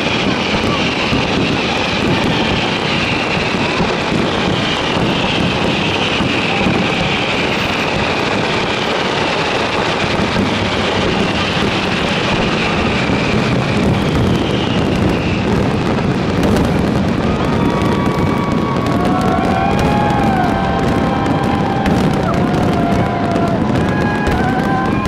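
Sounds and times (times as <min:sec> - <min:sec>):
fireworks bursting and crackling: 0:00.0 - 0:25.0.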